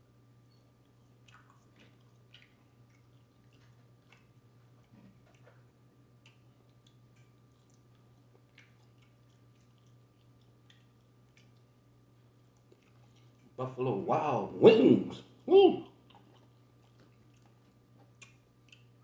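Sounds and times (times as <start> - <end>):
steady low hum: 0.0 - 19.0
person chewing: 0.7 - 13.6, 15.8 - 19.0.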